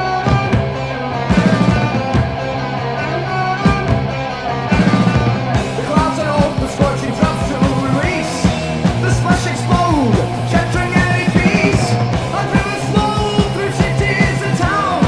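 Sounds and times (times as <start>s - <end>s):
distorted electric guitars: 0.0s - 15.0s
steady drum beat: 0.1s - 2.7s, 3.5s - 15.0s.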